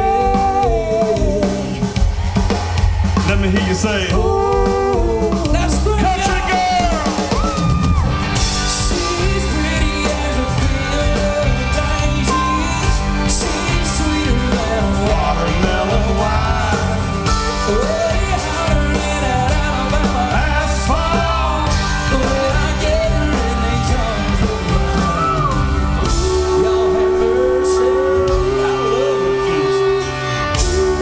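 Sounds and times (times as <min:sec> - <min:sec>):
live country-rap band playing: 0:00.0 - 0:31.0.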